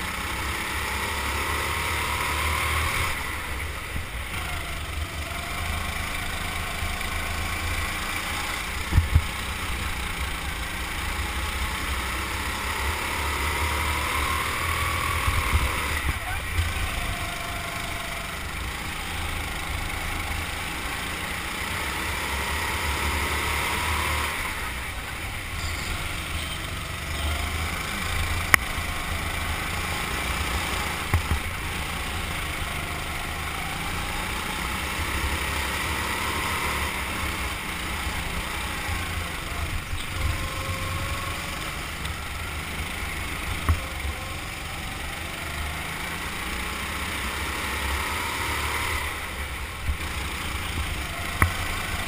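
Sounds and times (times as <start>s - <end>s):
go-kart engine: 0.0s - 52.0s.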